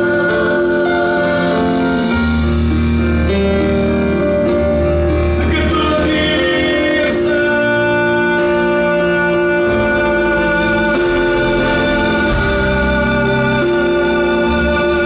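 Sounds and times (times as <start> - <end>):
worship music sustained chords: 0.0 - 15.0.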